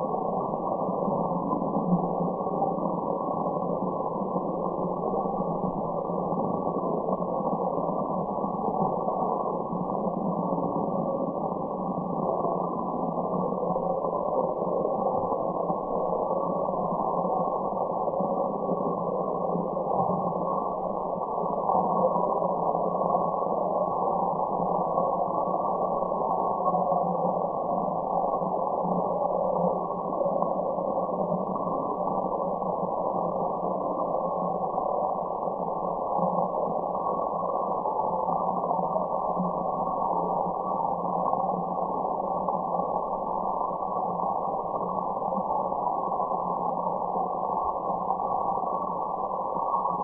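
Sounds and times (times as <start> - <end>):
muffled synthetic hiss: 0.0 - 50.0.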